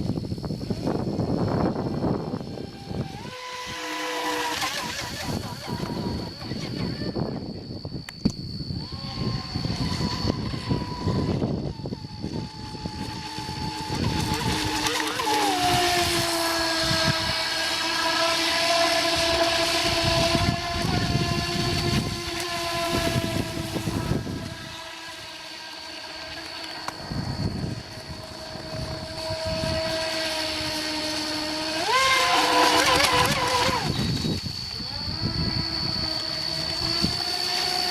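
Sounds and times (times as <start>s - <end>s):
rc boat electric motor whine: 0.0s - 37.9s.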